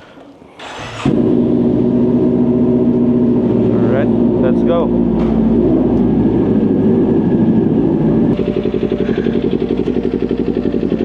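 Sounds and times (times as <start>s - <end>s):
motorcycle engine idling: 1.2s - 11.0s.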